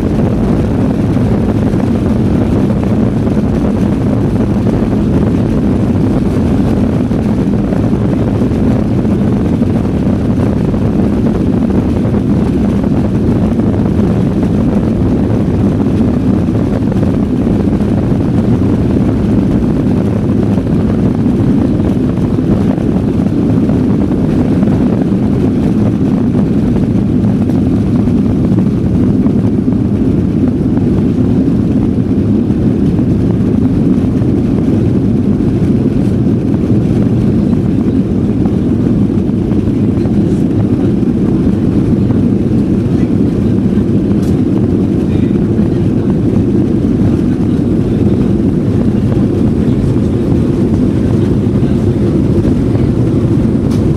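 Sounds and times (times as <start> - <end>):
jet engine rumble in cabin: 0.0 - 53.9.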